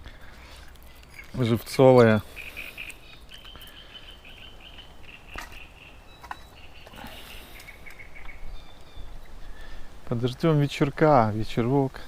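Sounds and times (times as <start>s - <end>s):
low wind rumble: 0.0s - 12.0s.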